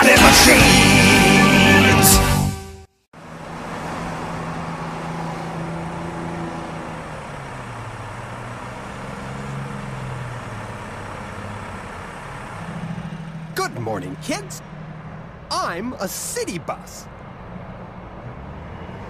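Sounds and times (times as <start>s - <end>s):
bus engine humming: 0.0s - 19.0s
rush of vehicle noise: 3.2s - 19.0s.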